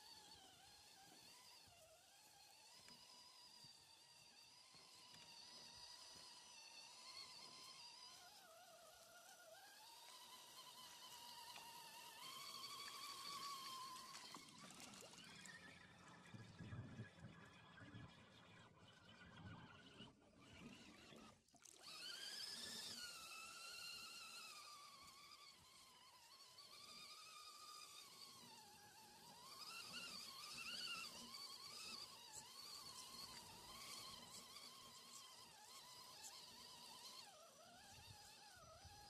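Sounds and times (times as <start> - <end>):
electric motor and gears whining: 0.0 - 15.8, 19.7 - 39.0.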